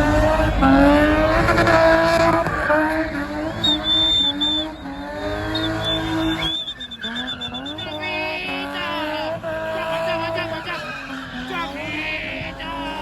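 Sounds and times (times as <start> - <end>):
car engine revving hard: 0.0 - 13.0
tyres squealing: 1.4 - 13.0.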